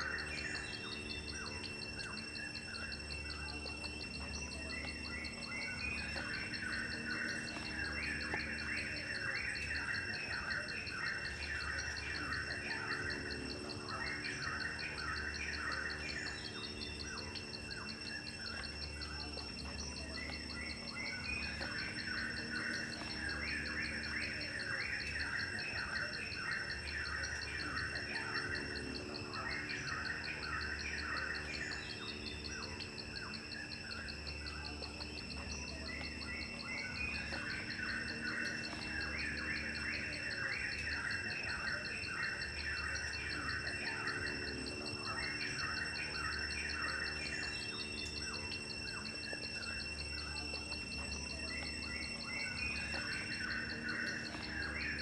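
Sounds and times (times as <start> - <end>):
birds chirping: 0.0 - 55.0
insects droning: 0.0 - 55.0.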